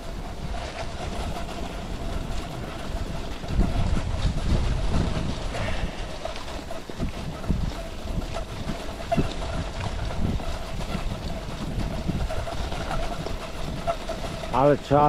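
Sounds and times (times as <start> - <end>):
skis sliding on snow: 0.0 - 15.0
wind on microphone: 0.0 - 15.0.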